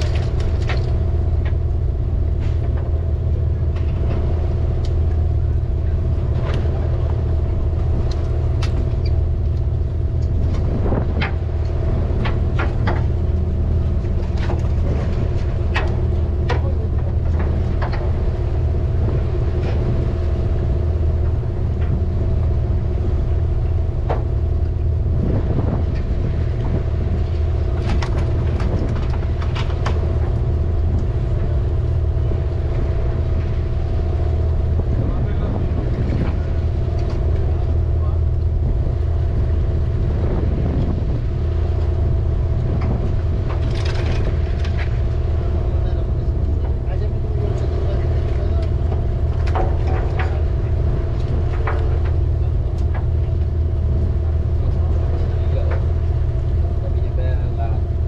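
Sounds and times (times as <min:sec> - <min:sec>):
boat engine rumbling: 0:00.0 - 0:58.0.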